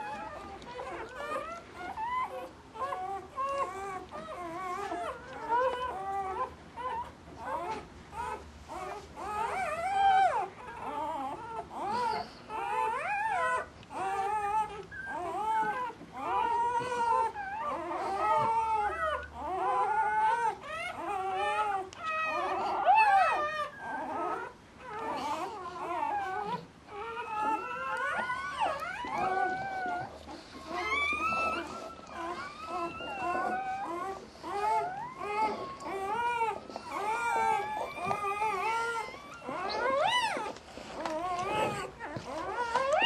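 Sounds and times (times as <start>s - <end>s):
puppies whimpering and squealing: 0.0s - 43.0s.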